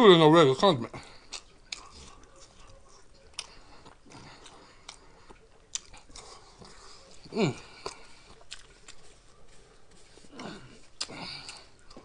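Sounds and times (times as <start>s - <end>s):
person chewing noodles: 0.9s - 12.0s.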